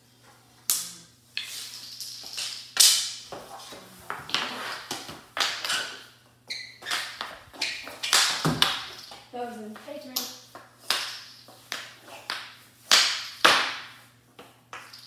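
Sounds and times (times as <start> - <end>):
hockey sticks clacking on wood floor: 0.7 - 15.0.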